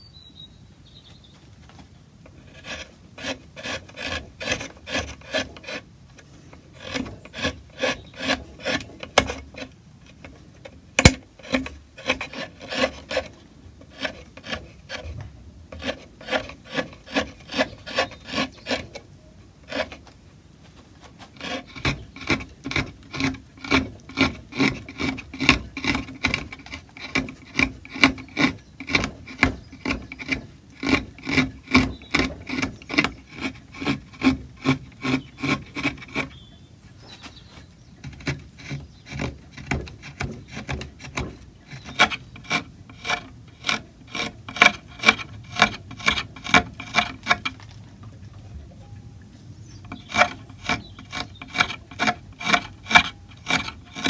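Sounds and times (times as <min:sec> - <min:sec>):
carving tool scraping wood: 0:02.2 - 0:20.2, 0:21.0 - 0:47.8, 0:49.6 - 0:54.0.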